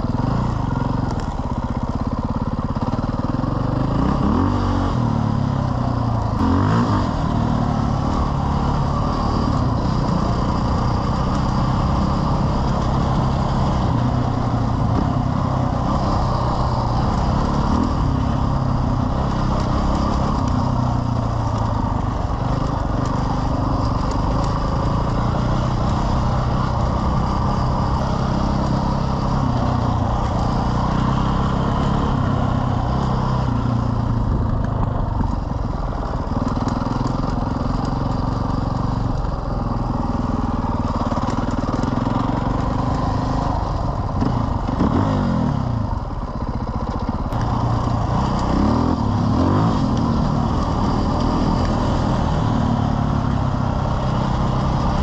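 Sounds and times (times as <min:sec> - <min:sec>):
motorcycle engine revving: 0:00.0 - 0:55.0
motorcycle engine running: 0:00.0 - 0:55.0.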